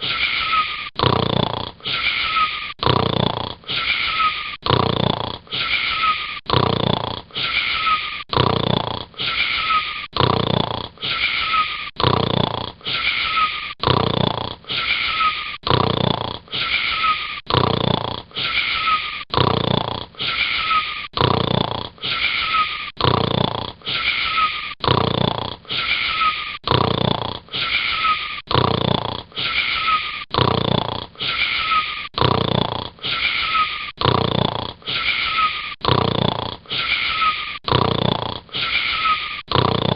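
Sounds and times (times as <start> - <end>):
person snoring: 0.0 - 39.9.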